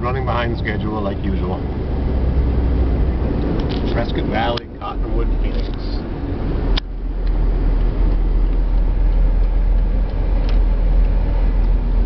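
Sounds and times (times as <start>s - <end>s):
road and engine rumble in cab: 0.0s - 12.0s.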